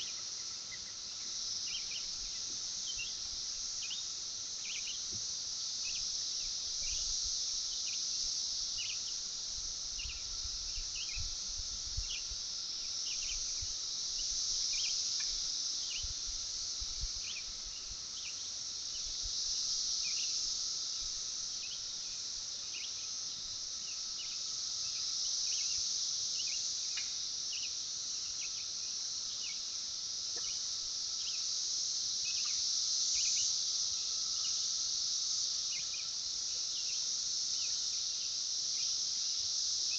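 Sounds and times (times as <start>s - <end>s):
insects buzzing drone: 0.0s - 39.9s.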